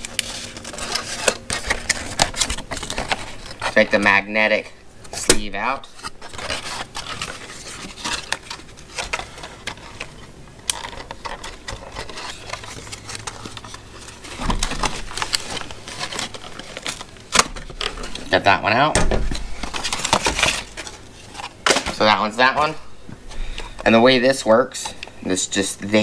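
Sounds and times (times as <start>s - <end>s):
packaging rustling and crinkling: 0.0s - 26.0s.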